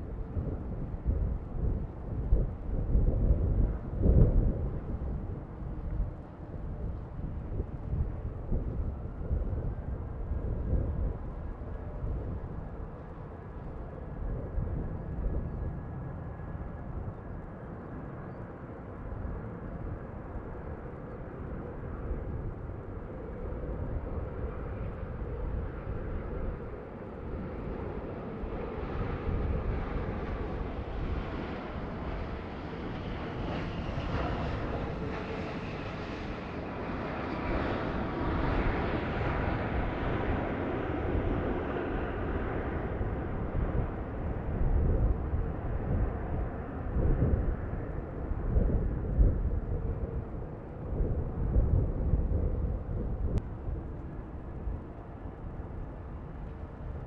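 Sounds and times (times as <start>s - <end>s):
jet airliner passing: 0.0s - 57.0s
wind on microphone: 0.0s - 57.0s.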